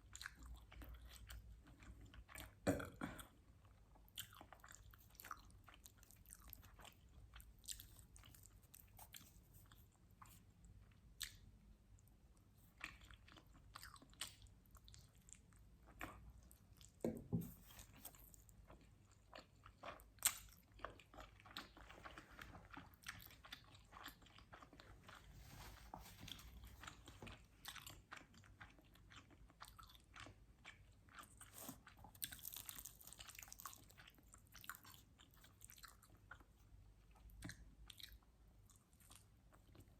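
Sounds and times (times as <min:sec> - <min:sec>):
person chewing pizza: 0:00.0 - 0:17.0, 0:17.6 - 0:39.9.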